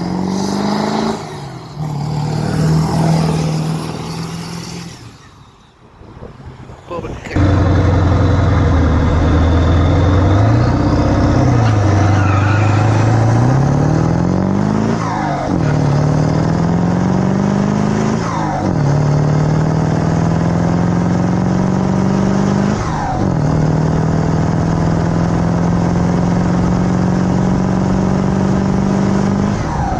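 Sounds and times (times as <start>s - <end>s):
diesel truck engine accelerating: 0.0s - 29.9s.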